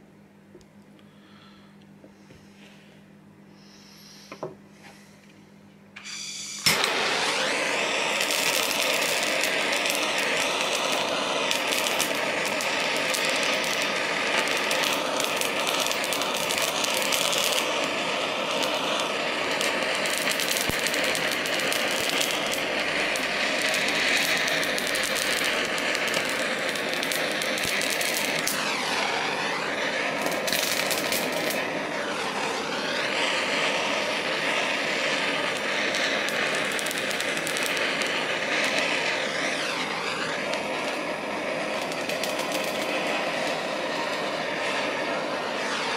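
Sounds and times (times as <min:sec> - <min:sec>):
gas torch flame hissing: 0:03.5 - 0:05.2, 0:06.0 - 0:45.9.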